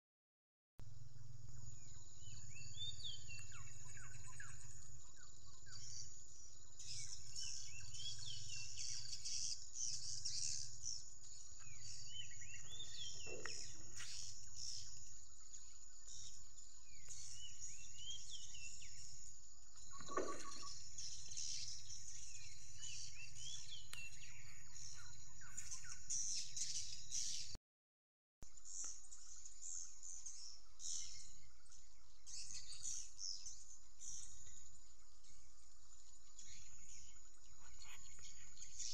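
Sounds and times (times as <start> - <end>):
birds twittering: 0.8 - 27.6, 28.4 - 38.9.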